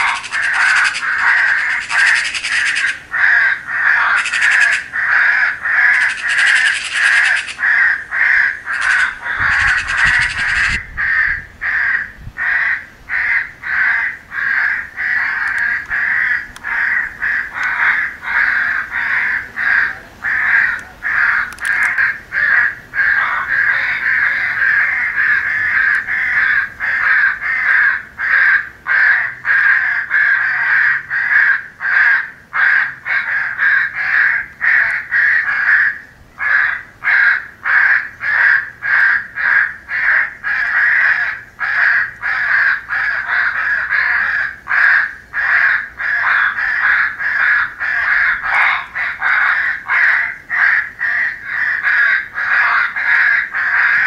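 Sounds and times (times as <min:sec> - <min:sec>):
crows cawing: 0:00.0 - 0:54.0.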